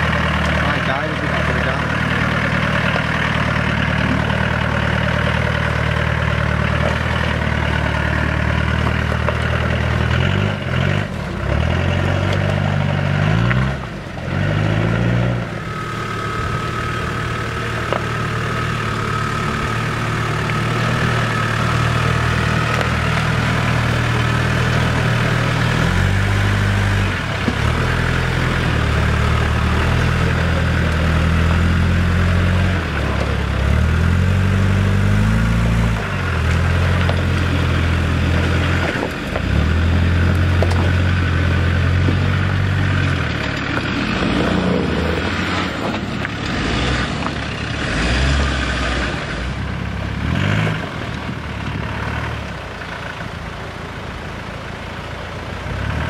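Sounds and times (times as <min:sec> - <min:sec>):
four-wheel drive engine revving: 0:00.0 - 0:56.0.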